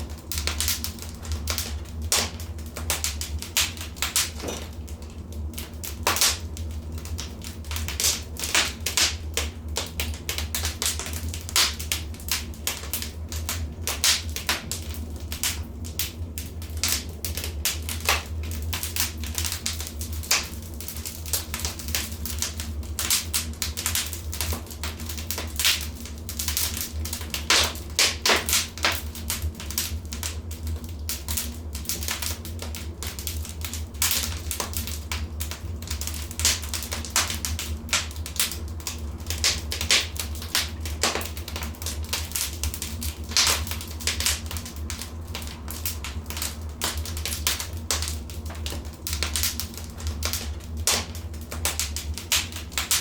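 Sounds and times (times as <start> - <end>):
low fire rumble: 0.0 - 53.0
wood fire crackling: 0.0 - 53.0.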